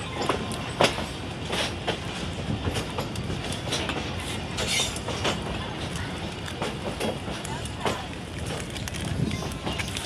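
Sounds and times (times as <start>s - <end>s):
train wheels rumbling: 0.0s - 10.0s
wheels clacking over rail joints: 0.0s - 10.0s.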